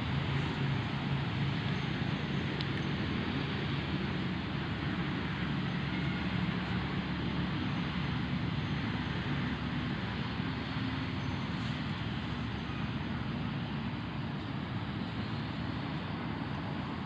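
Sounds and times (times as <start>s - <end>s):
low motor drone with hiss: 0.0s - 17.0s.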